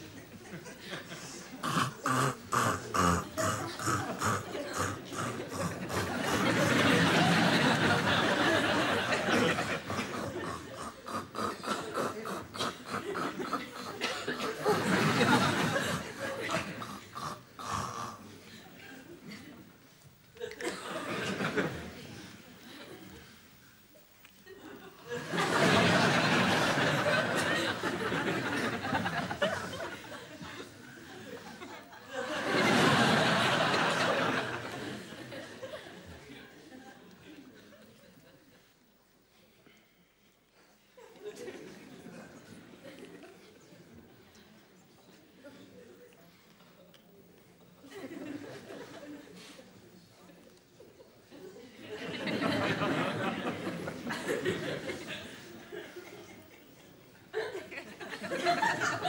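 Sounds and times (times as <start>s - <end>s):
audience laughter: 0.0s - 19.6s, 20.4s - 23.4s, 24.3s - 38.6s, 41.0s - 43.8s, 47.8s - 49.6s, 50.9s - 59.0s.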